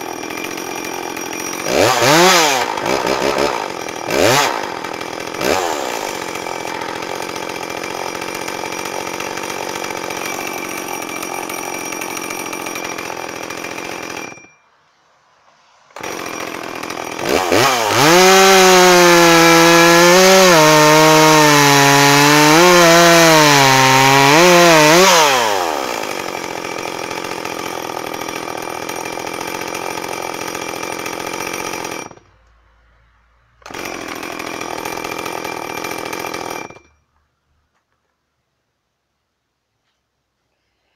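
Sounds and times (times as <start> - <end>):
chainsaw cutting log: 0.0 - 14.5, 15.9 - 32.2, 33.6 - 37.0
chainsaw idling: 0.0 - 14.5, 15.9 - 32.2, 33.6 - 37.0.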